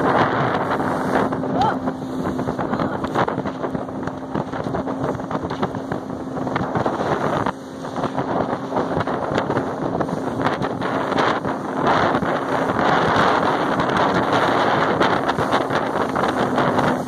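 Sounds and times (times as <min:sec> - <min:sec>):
motorboat engine hum: 0:00.0 - 0:17.0
wind buffeting microphone: 0:00.0 - 0:17.0.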